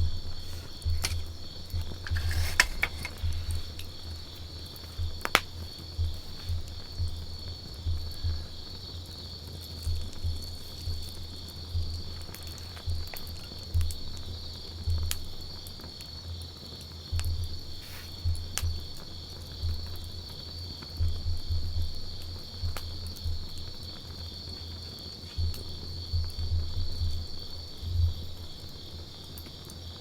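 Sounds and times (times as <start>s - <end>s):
campfire crackling and popping: 0.0s - 30.0s
insects trilling: 0.0s - 30.0s.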